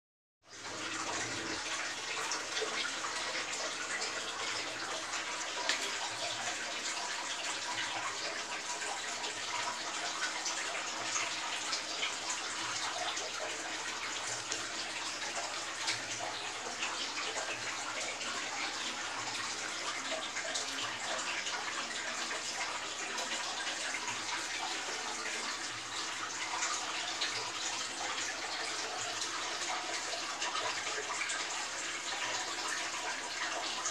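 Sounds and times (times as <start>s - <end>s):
aquarium water bubbling: 0.5s - 33.9s.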